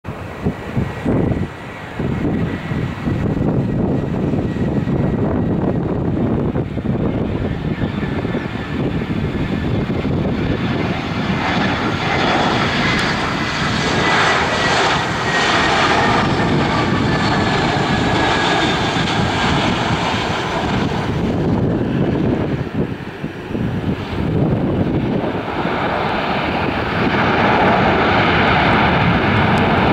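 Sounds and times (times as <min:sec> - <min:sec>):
jet airliner engine noise: 0:00.0 - 0:29.9.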